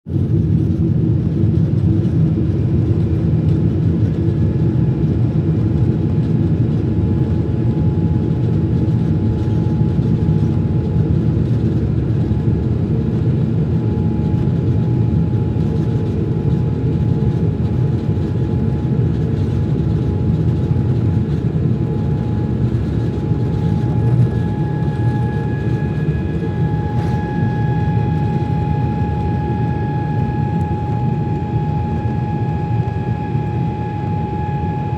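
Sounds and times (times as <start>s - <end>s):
high engine whine: 0.1s - 34.9s
jet engines rumbling: 0.1s - 34.9s.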